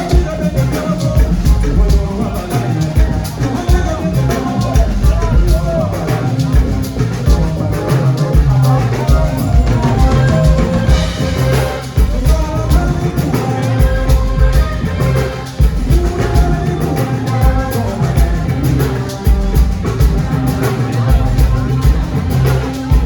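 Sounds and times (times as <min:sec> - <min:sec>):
drum kit and bass beat: 0:00.0 - 0:23.0
live band playing gospel highlife: 0:00.0 - 0:23.0
person singing: 0:00.0 - 0:23.0.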